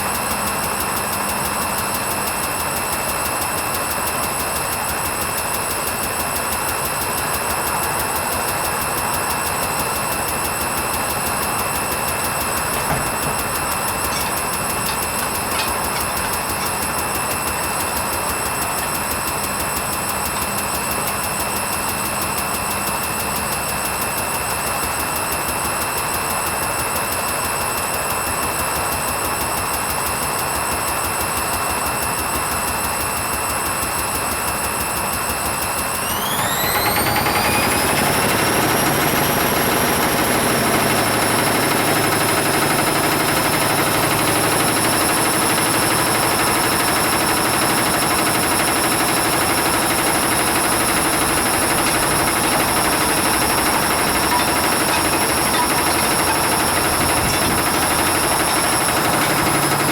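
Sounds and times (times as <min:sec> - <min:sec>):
washing machine spinning: 0:00.0 - 0:26.4, 0:35.9 - 0:59.9.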